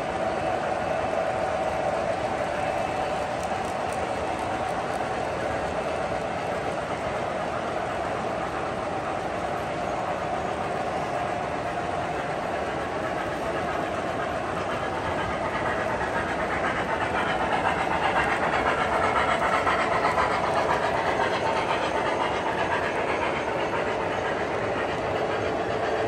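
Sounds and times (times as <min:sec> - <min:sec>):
model train wheels rumbling on rails: 0:00.0 - 0:26.0.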